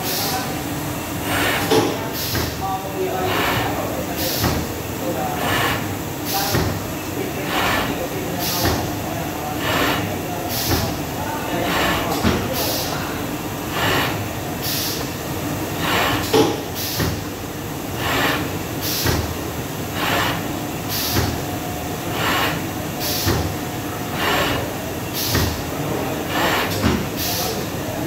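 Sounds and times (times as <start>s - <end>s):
continuous mechanical background: 0.0s - 28.0s.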